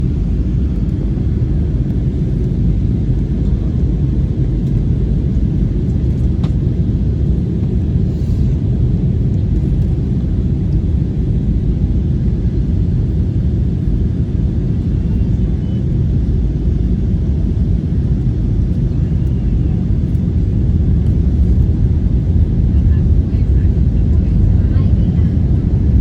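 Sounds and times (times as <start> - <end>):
jet airliner low rumble: 0.0 - 26.0.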